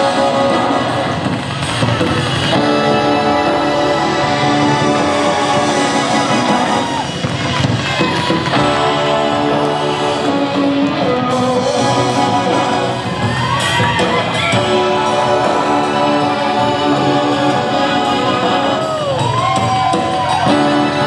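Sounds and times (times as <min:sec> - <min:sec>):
rock music over speakers: 0:00.0 - 0:21.0.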